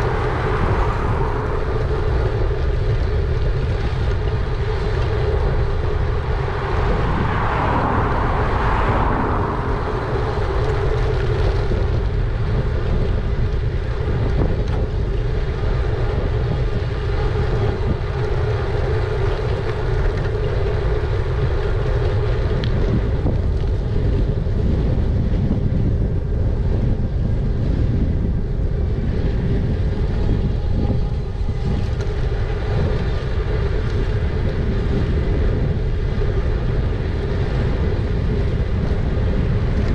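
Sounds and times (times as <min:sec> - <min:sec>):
mid-pitched hum: 0:00.0 - 0:39.9
wind buffeting microphone: 0:00.0 - 0:39.9.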